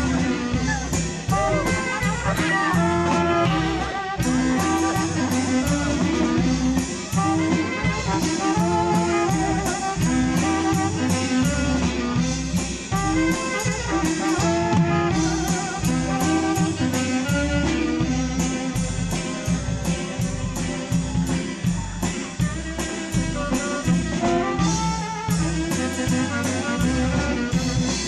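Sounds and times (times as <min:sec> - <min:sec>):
saxophone melody: 0:00.0 - 0:20.2, 0:22.3 - 0:28.0
band playing dance tune: 0:00.0 - 0:28.0.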